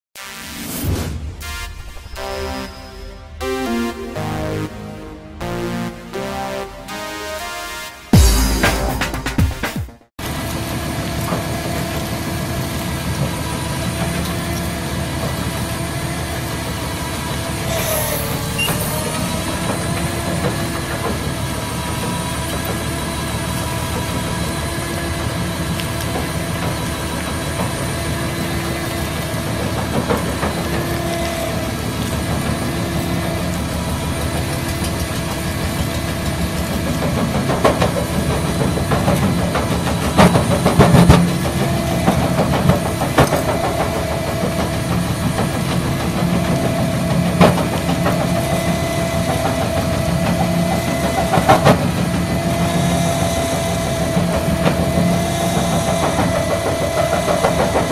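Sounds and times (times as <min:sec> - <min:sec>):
excavator diesel engine whining: 0:02.1 - 0:09.6, 0:10.2 - 0:57.9
crusher bucket working rubble: 0:10.2 - 0:57.9.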